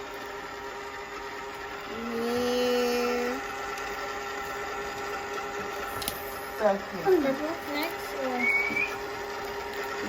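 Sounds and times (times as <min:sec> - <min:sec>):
small electric motor whirring: 0:00.0 - 0:10.0.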